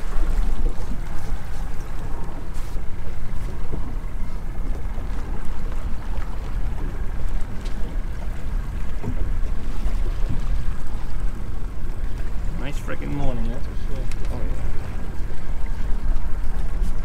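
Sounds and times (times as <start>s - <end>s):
water around a boat: 0.0s - 17.0s
wind: 0.0s - 17.0s.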